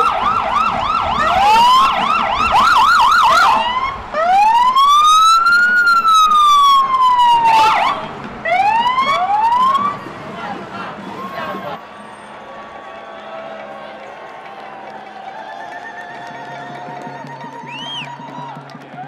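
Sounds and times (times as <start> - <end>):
police siren yelp and wail: 0.0 - 17.6.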